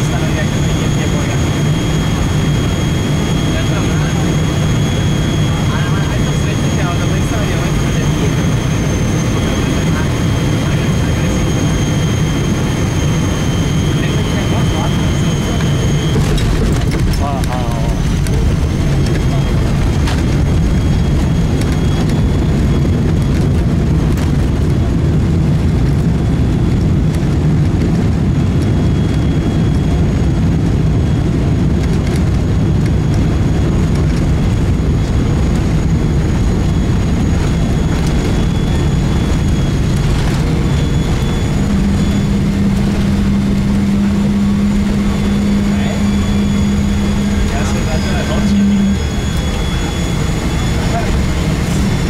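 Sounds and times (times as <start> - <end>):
airliner cabin roar: 0.0 - 52.0
steady low hum: 0.0 - 52.0.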